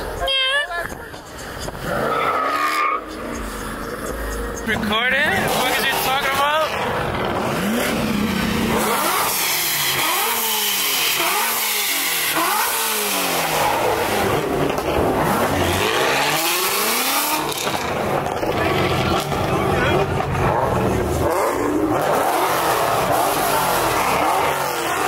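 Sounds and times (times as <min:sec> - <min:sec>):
car engine revving: 0:00.8 - 0:25.0.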